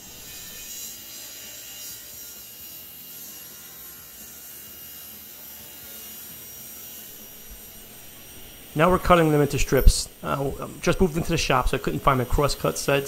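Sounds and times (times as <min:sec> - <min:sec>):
table saw cutting wood: 0:00.0 - 0:13.0.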